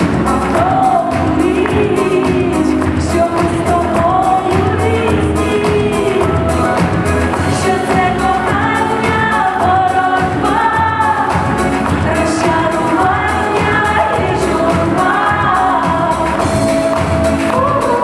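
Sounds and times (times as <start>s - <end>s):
person singing: 0.0s - 18.0s
steady bass beat: 0.0s - 18.0s.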